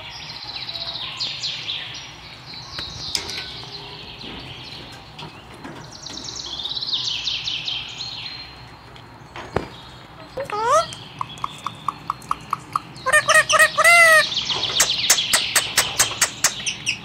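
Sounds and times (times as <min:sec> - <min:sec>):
birds trilling: 0:00.0 - 0:17.0.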